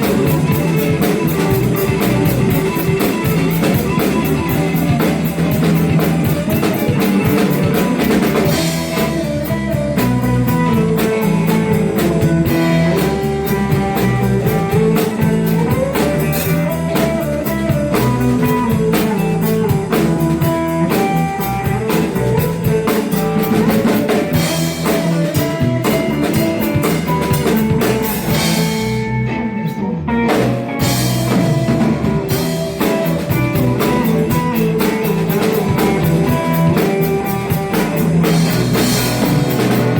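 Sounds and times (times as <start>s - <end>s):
drum kit steady beat: 0.0s - 39.9s
guitar lines: 0.0s - 39.9s.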